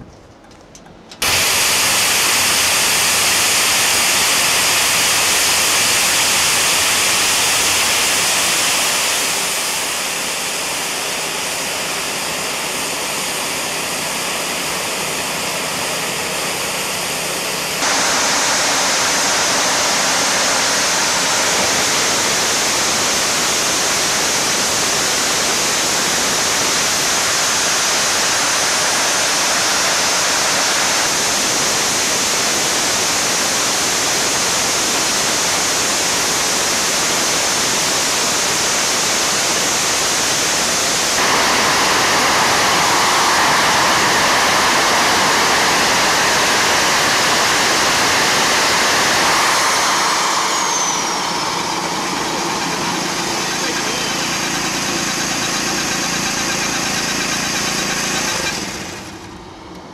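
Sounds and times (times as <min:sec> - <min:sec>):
jet engine roaring: 0:01.2 - 0:59.7.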